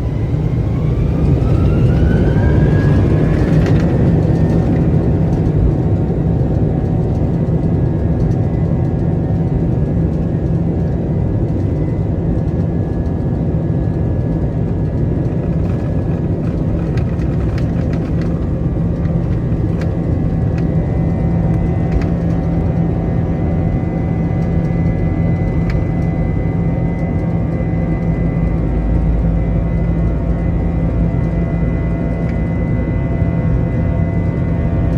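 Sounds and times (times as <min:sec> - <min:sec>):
jet engine rumble and whine: 0:00.0 - 0:34.9.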